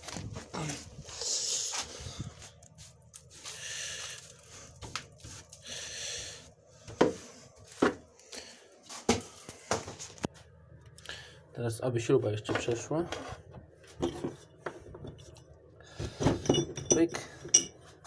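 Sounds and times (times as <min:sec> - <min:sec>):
rustling and scraping of tools: 0:00.0 - 0:10.5, 0:12.4 - 0:18.0.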